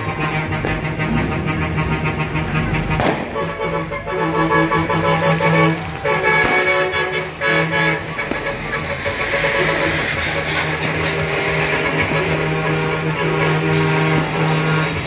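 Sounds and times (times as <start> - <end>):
truck air horns blowing: 0.0 - 15.0
trucks passing: 0.0 - 15.0.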